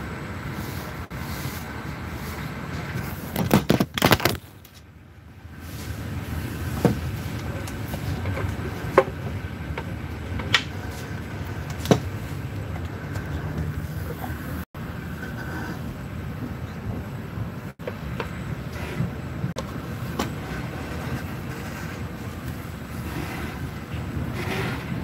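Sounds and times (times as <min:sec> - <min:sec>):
train running rumble: 0:00.0 - 0:03.6, 0:04.9 - 0:25.0.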